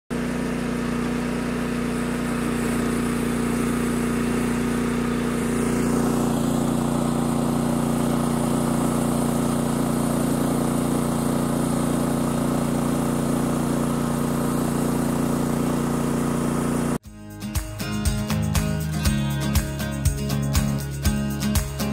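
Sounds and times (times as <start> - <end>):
sawmill engine running: 0.1 - 21.9.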